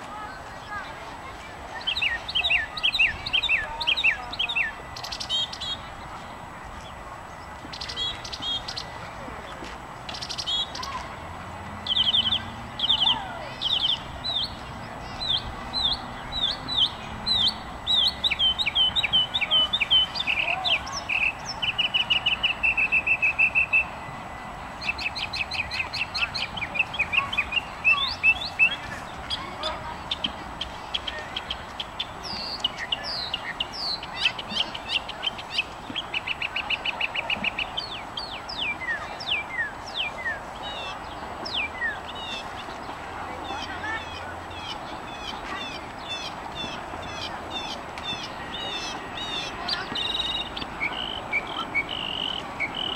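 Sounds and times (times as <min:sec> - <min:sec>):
mockingbird singing: 0:01.7 - 0:09.0, 0:10.1 - 0:24.1, 0:24.7 - 0:52.9.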